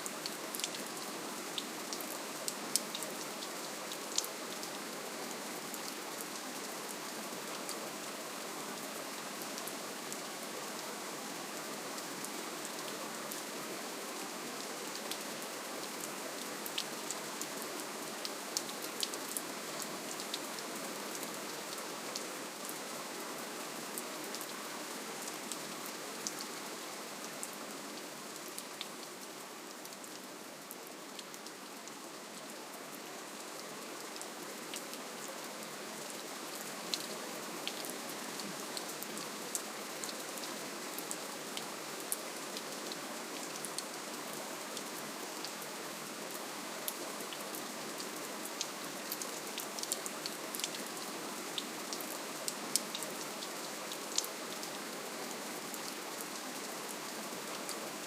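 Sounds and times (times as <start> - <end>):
gentle rainfall: 0.0 - 58.0.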